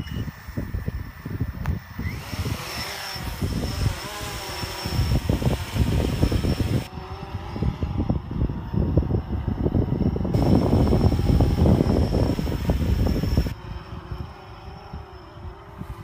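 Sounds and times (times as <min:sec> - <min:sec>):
drone motors buzzing: 0:00.0 - 0:16.0
wind buffeting microphone: 0:00.0 - 0:16.0.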